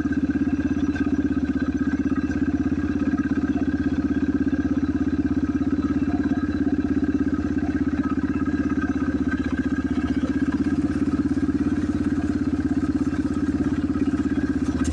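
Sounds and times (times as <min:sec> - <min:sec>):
dirt bike engine idling: 0:00.0 - 0:14.9.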